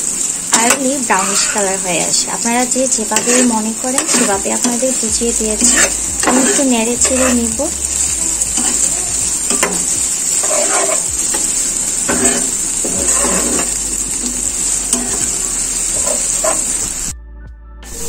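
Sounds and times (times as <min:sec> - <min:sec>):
onions sizzling in hot oil: 0:00.0 - 0:17.1
spatula scraping pan: 0:00.5 - 0:16.9.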